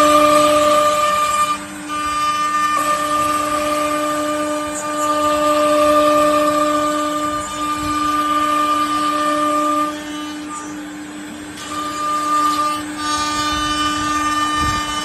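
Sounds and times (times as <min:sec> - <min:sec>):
noisy hiss: 0:00.0 - 0:15.0
router spindle whining: 0:00.0 - 0:15.0.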